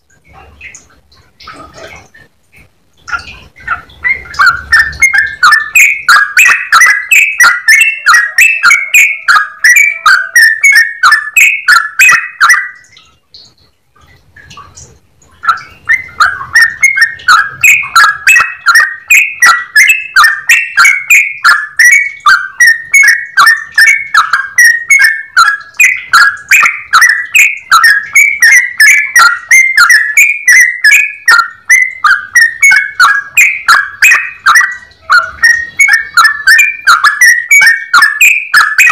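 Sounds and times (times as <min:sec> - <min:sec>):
bird singing chattering notes: 0:03.1 - 0:13.6, 0:14.4 - 0:38.9.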